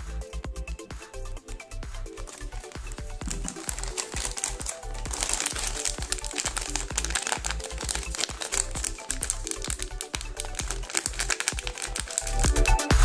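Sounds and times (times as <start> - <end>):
electronic music with beat: 0.0 - 13.0
crisps bag crinkling: 2.0 - 13.0.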